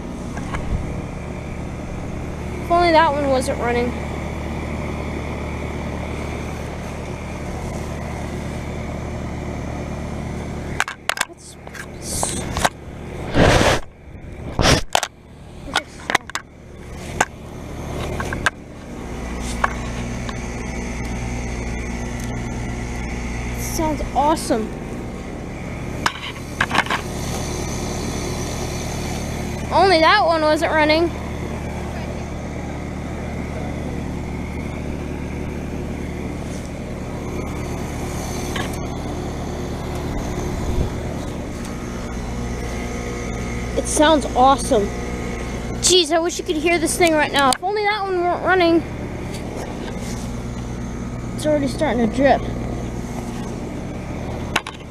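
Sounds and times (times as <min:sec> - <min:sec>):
condenser units humming: 0:00.0 - 0:54.9.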